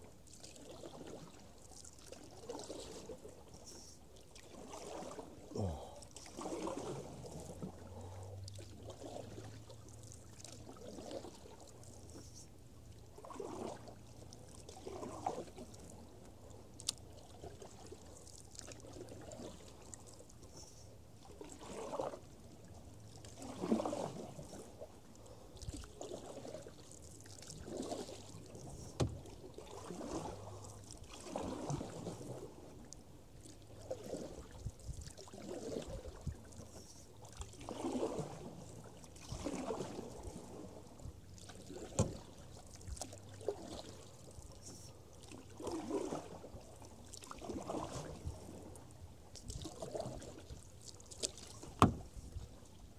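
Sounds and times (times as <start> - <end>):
paddle splashing through water: 0.0 - 52.9.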